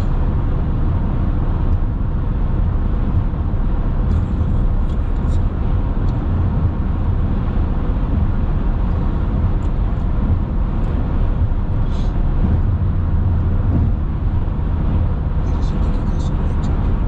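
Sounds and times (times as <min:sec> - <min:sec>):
car cabin road noise: 0:00.0 - 0:17.0.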